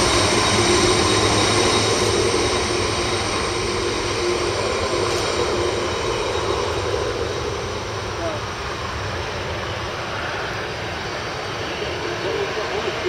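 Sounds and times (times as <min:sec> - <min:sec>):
jet engines taxiing: 0:00.0 - 0:13.0.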